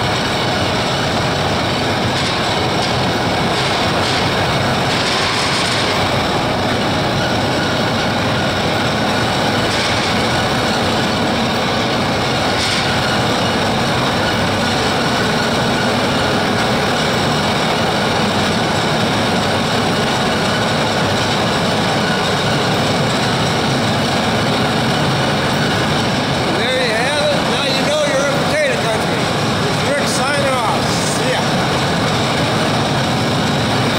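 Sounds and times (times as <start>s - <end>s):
conveyor running: 0.0s - 33.9s.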